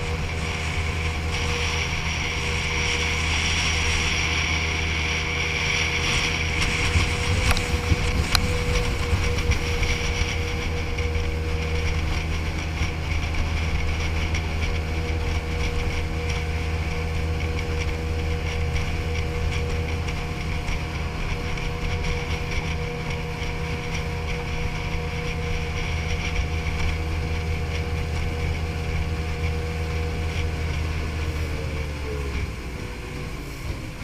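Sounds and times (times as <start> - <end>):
outboard motor droning: 0.0 - 34.0
water rushing: 0.0 - 34.0
wind: 0.0 - 34.0.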